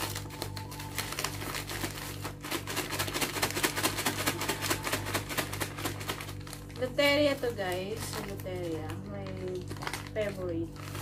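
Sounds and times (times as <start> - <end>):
paper bag rustling when shaken: 0.0 - 11.0.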